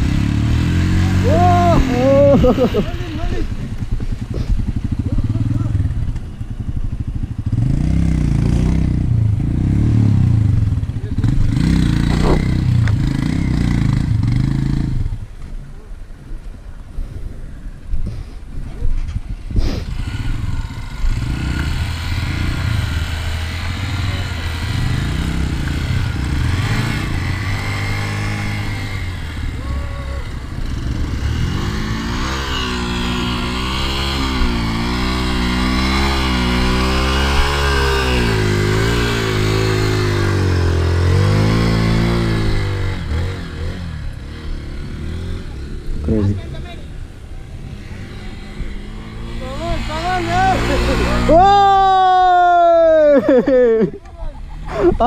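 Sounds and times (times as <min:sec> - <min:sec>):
motorcycle engine revving: 0:00.0 - 0:15.3, 0:19.2 - 0:55.0.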